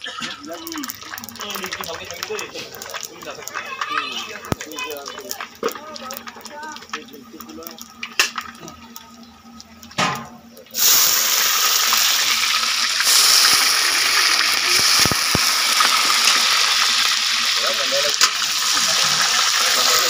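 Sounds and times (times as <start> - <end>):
oil sizzling in a wok: 0.0 - 20.0.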